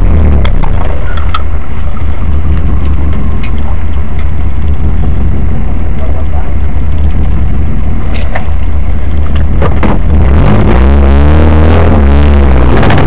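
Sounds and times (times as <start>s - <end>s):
car engine revving: 0.0s - 13.0s
heavy low rumble: 0.0s - 13.0s.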